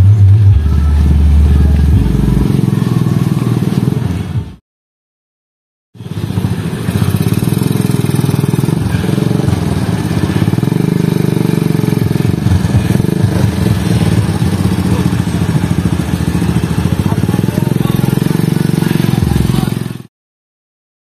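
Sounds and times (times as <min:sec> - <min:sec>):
vehicle engine running: 0:00.0 - 0:04.6, 0:06.0 - 0:20.1.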